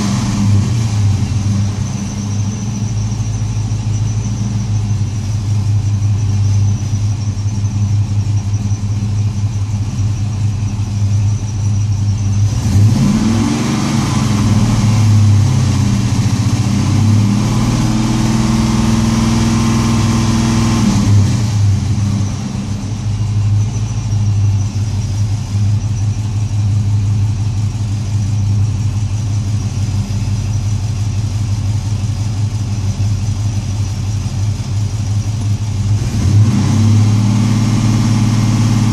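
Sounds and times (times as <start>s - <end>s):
misfiring engine idling and revving: 0.0s - 38.9s.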